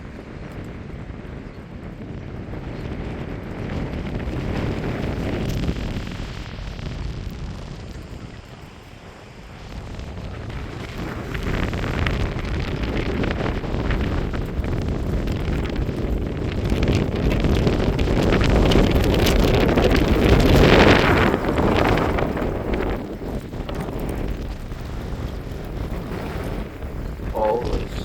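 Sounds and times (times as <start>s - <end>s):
wind gusts buffeting microphone: 0.0s - 28.0s.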